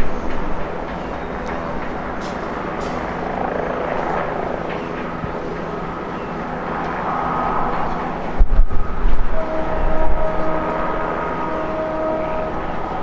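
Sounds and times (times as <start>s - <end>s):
faint high whine: 0.0s - 13.0s
jet engines rumbling and hissing: 0.0s - 13.0s.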